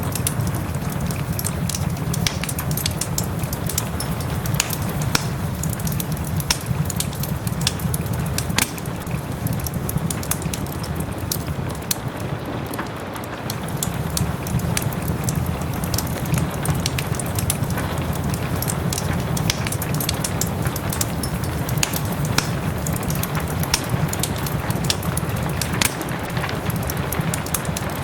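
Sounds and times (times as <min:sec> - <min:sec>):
soft rain hiss: 0:00.0 - 0:28.0
wood fire crackling and popping: 0:00.0 - 0:28.0.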